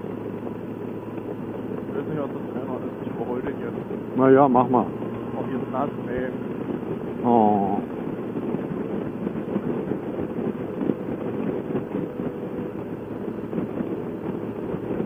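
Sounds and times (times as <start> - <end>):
motorcycle riding noise: 0.0 - 15.0
wind crackles on microphone: 0.0 - 15.0
wind rush: 0.0 - 15.0.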